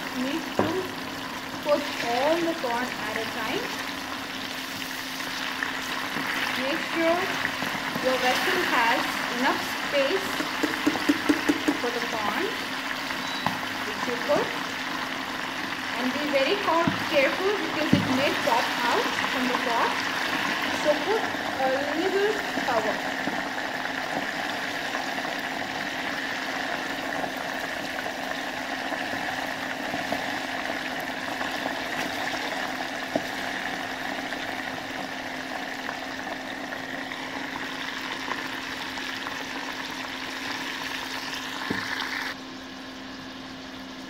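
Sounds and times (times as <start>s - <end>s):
oil sizzling and bubbling: 0.0s - 44.0s.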